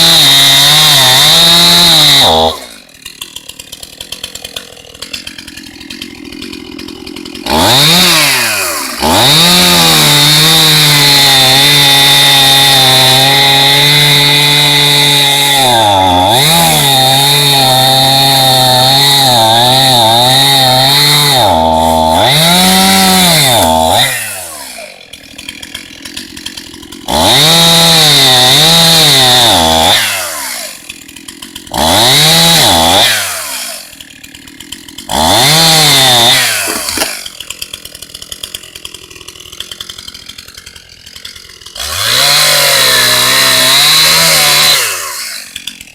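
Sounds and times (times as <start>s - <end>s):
chainsaw cutting and revving: 0.0s - 45.9s.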